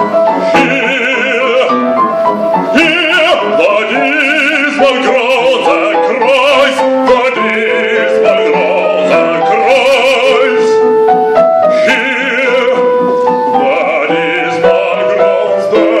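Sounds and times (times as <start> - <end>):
man singing opera: 0.0 - 11.0, 11.6 - 16.0.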